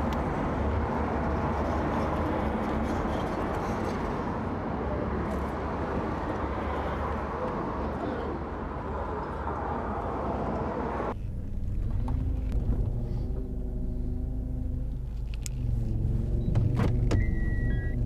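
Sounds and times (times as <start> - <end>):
outdoor wind noise: 0.0 - 18.0.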